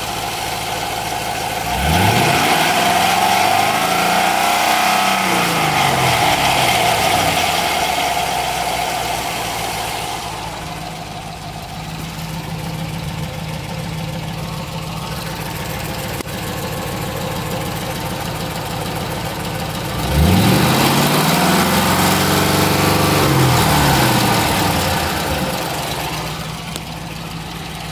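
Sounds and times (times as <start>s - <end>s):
engine idling and revving: 0.0s - 27.9s.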